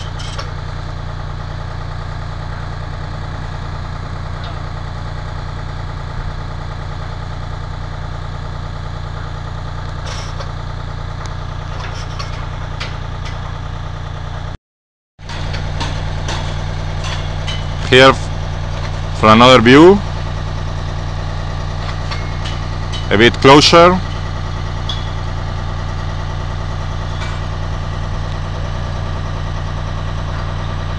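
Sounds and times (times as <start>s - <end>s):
machinery engine humming: 0.0s - 14.6s, 15.2s - 30.9s.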